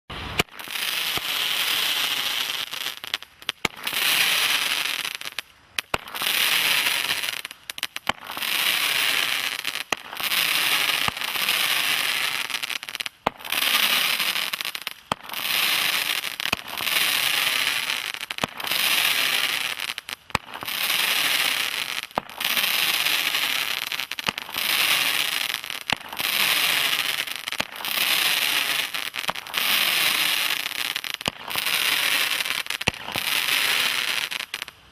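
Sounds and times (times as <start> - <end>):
roman candle firing crackling shots: 0.3 - 34.7.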